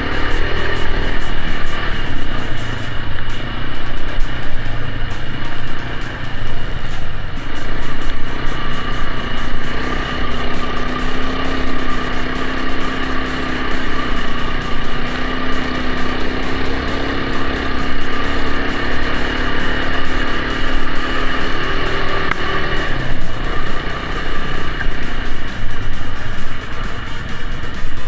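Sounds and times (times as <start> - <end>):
background music: 0.0 - 28.0
motorbike engine running: 0.0 - 28.0.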